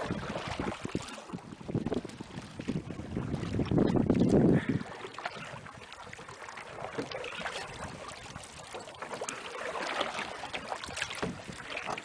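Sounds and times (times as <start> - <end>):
paddle dipping and pulling through water: 0.0 - 12.0
small water splashes and drips: 0.0 - 12.0.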